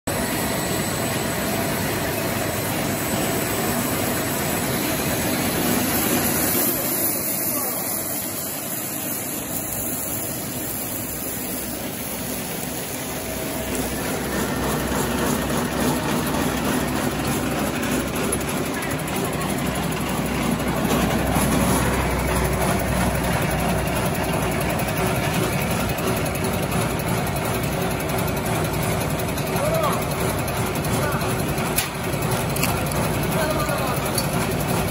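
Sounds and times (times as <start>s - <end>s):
steady machine noise: 0.1s - 34.9s.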